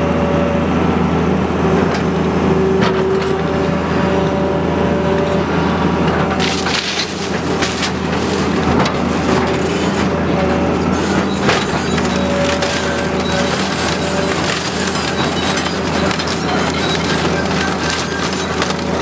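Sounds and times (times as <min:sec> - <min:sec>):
excavator diesel engine running: 0:00.0 - 0:19.0
machine whine: 0:02.7 - 0:19.0.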